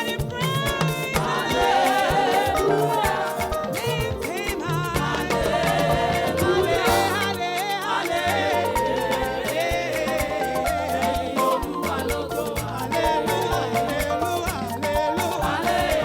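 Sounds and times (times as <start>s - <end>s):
upbeat church praise music: 0.0s - 16.0s.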